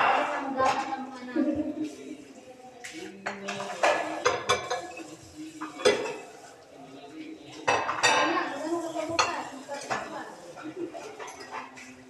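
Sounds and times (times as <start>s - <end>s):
plates and cutlery clinking: 0.0s - 2.0s, 2.8s - 12.0s.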